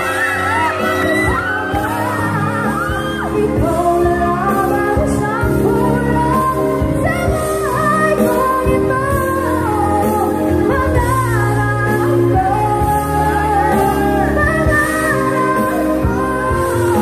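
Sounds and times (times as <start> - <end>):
amplified pop music: 0.0 - 17.0
woman singing into a microphone: 0.0 - 17.0.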